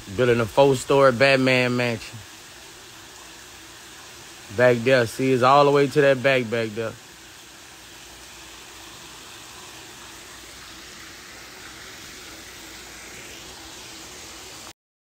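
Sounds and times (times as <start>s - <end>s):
steady hiss: 0.0s - 14.7s.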